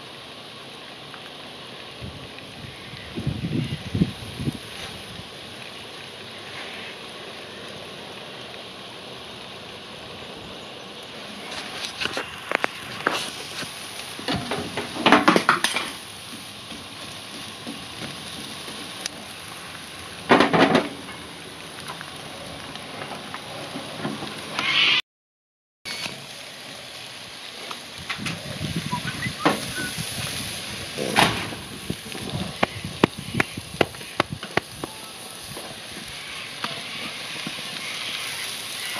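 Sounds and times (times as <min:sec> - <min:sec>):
food sizzling on a hotplate: 0:00.0 - 0:25.0, 0:25.9 - 0:38.9.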